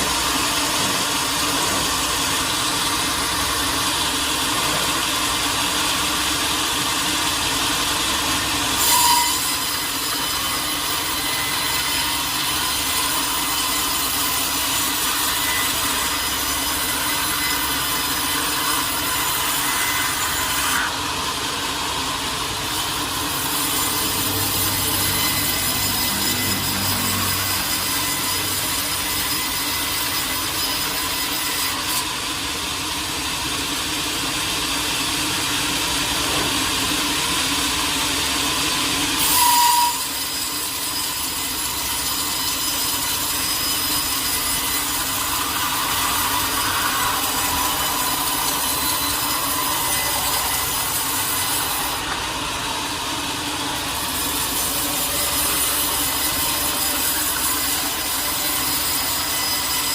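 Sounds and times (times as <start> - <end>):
saw blade cutting through log: 0.0 - 59.9.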